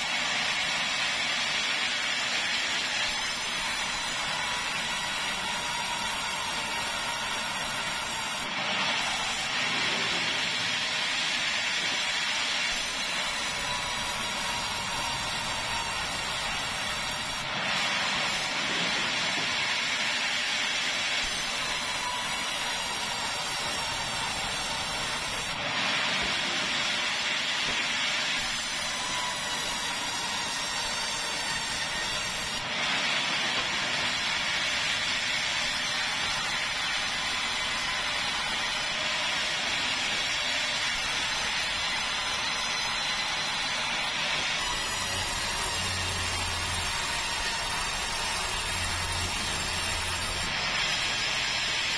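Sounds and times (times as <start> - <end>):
band saw cutting wood: 0.0 - 51.9.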